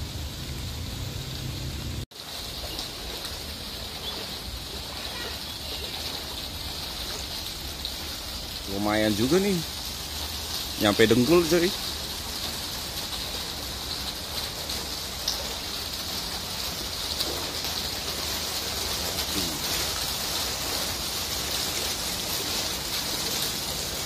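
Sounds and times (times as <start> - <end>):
light rain on water: 0.0 - 24.0.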